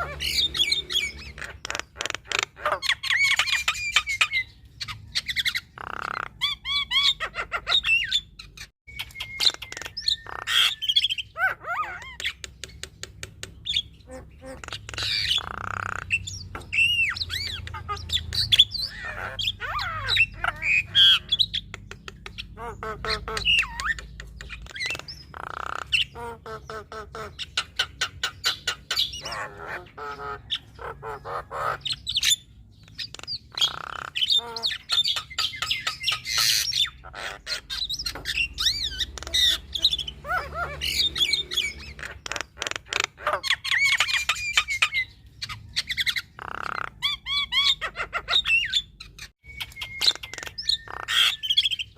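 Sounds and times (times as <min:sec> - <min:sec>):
myna bird singing: 0:00.0 - 0:51.9.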